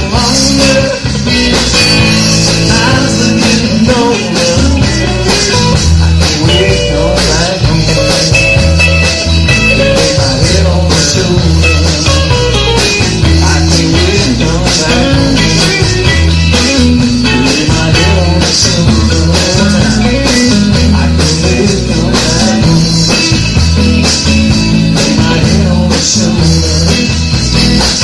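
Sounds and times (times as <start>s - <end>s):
bass and drums: 0.0s - 28.0s
blues-rock band music: 0.0s - 28.0s
electric guitar lines: 0.0s - 28.0s.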